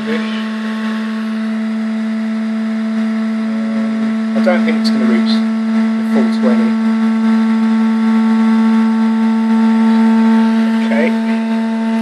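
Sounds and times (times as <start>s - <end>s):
disc drive motor humming: 0.0s - 12.0s.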